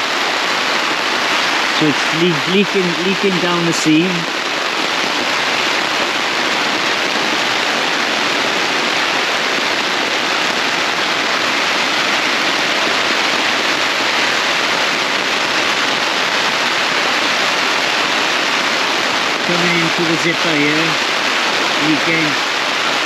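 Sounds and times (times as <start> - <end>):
heavy rain on a tent: 0.0 - 23.0.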